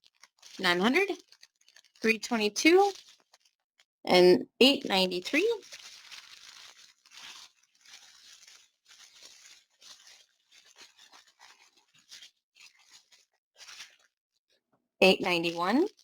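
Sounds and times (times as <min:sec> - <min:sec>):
plastic bags crinkling: 0:00.0 - 0:03.6, 0:04.7 - 0:14.2, 0:15.4 - 0:16.0.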